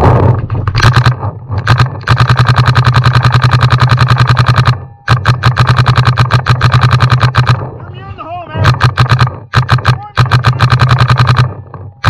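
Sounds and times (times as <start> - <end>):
paintball marker rapid firing: 0.0 - 7.8, 8.5 - 11.9.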